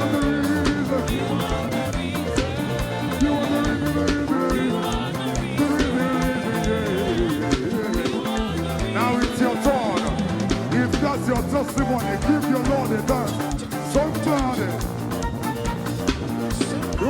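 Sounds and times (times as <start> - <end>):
drum kit steady beat: 0.0 - 17.0
praise band playing worship song: 0.0 - 17.0.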